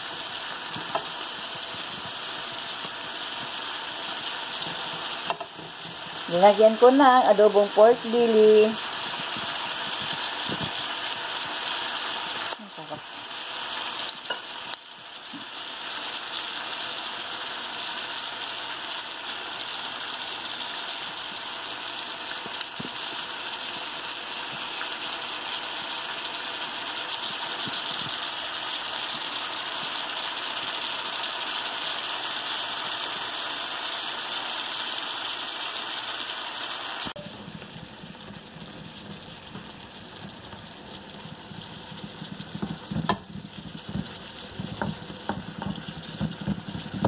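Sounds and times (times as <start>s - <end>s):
food sizzling in a wok: 0.0s - 47.0s.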